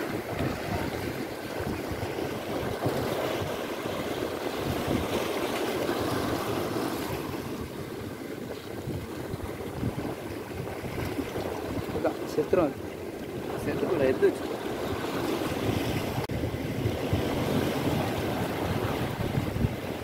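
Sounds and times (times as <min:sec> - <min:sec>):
waves breaking against rocks: 0:00.0 - 0:20.0
wind buffeting microphone: 0:00.0 - 0:20.0.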